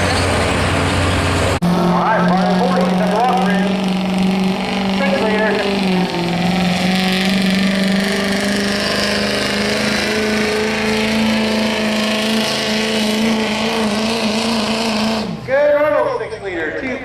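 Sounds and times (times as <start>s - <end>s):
diesel truck engine at high revs: 0.0s - 17.0s.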